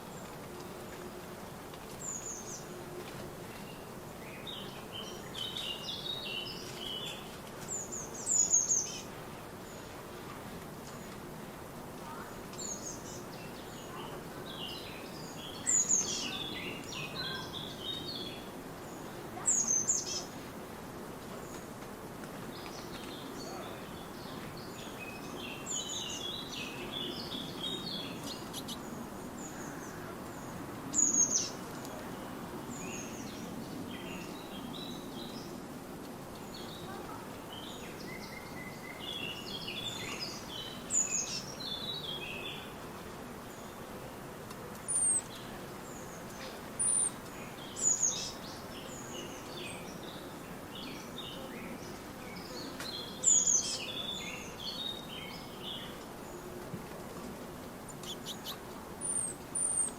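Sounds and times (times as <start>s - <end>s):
small birds chirping and twittering: 1.8s - 11.3s, 12.0s - 20.6s, 21.2s - 59.9s.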